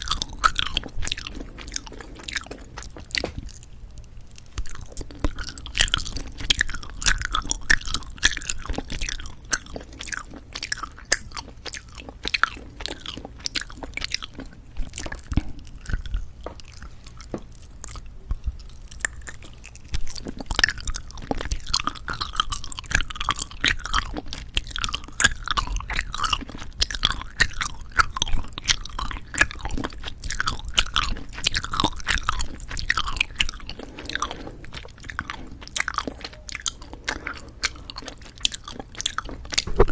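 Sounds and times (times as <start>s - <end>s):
chewing jelly candy: 0.0s - 39.9s.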